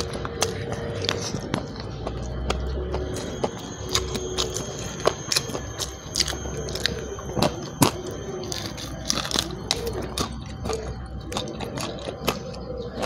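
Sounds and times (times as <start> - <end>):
person chewing with lip smacks: 0.0 - 13.0
steady low hum: 0.0 - 13.0.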